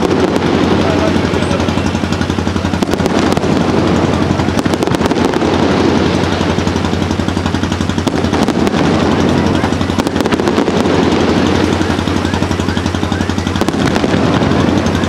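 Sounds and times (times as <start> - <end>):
fireworks crackling: 0.0 - 15.0
steady low rumble: 0.0 - 15.0.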